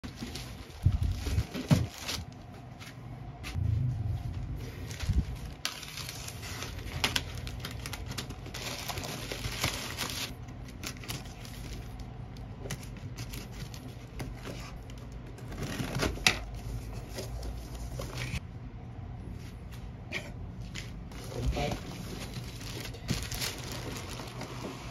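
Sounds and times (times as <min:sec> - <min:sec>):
plastic bag rustling: 0:00.0 - 0:03.6, 0:04.2 - 0:18.4, 0:20.8 - 0:24.9.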